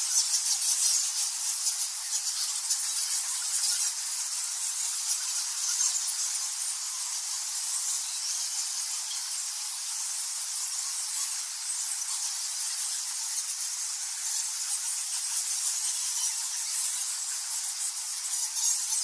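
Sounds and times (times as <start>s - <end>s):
bats chittering: 0.0s - 19.0s.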